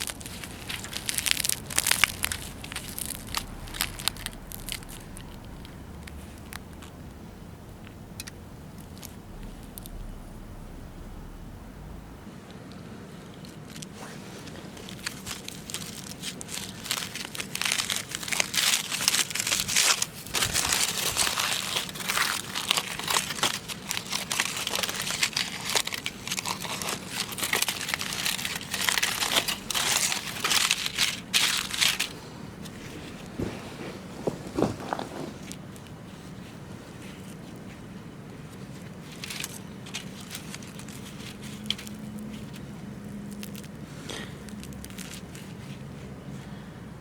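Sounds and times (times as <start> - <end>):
paper or plastic crinkling: 0.0 - 7.0, 13.6 - 37.7, 38.5 - 45.8.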